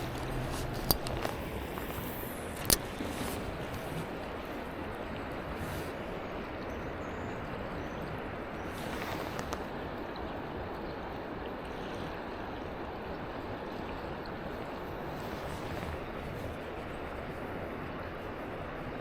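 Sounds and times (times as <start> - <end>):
river water rushing: 0.0 - 11.5, 12.1 - 18.8.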